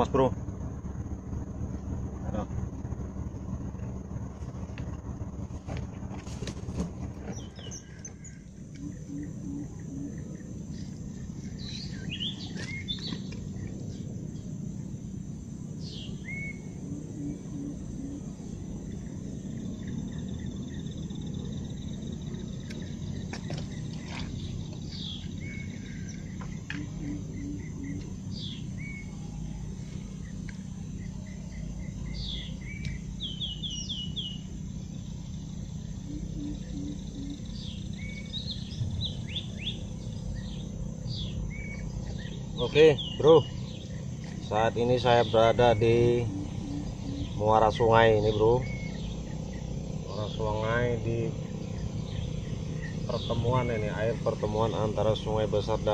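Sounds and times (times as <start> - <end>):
insect drone: 0.0 - 55.9
low steady rumble: 0.0 - 55.9
birds chirping and whistling: 6.4 - 15.0, 15.7 - 55.9
low bird call: 7.2 - 14.1, 15.8 - 21.0, 22.6 - 55.4.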